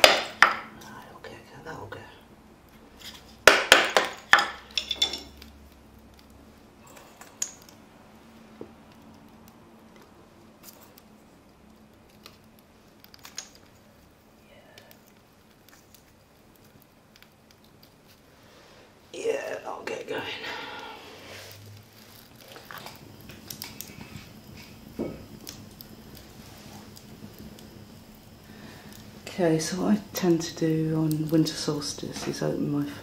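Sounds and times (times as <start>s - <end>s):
sticks clicking on fire: 0.0s - 1.0s, 3.3s - 7.8s, 8.6s - 18.3s, 21.5s - 33.0s.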